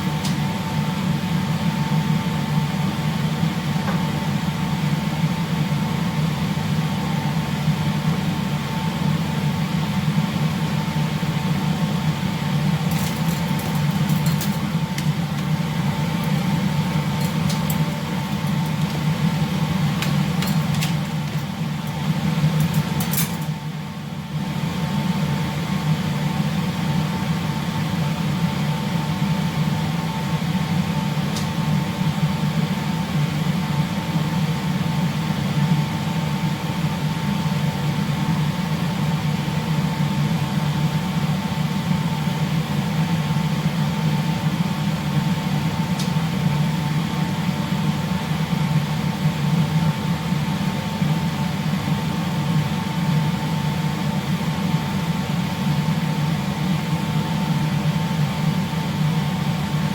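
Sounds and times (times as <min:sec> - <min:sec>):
low machinery hum: 0:00.0 - 0:59.9.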